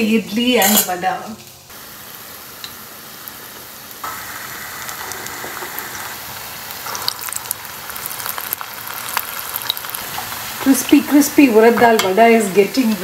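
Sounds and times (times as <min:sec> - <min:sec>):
deep-frying sizzle with pops: 0:01.4 - 0:13.0.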